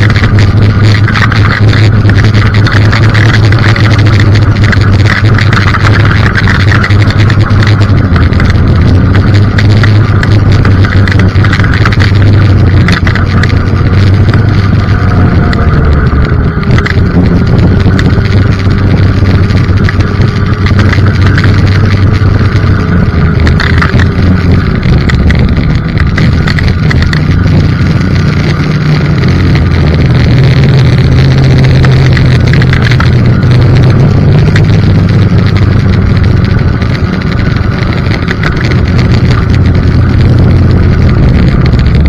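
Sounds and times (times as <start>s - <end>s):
snowmobile engine running: 0.0s - 42.0s
wind on microphone: 0.0s - 42.0s.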